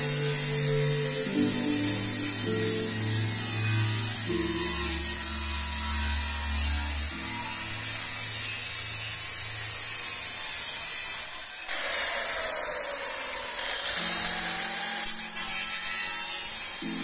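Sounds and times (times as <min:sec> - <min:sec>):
power tool whining: 0:00.0 - 0:17.0.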